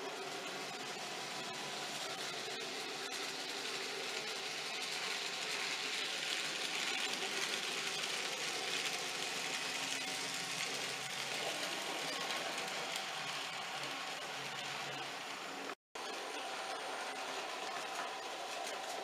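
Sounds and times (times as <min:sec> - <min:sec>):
model train motor whirring: 0:00.0 - 0:15.8
train wheels on rails: 0:00.0 - 0:19.0.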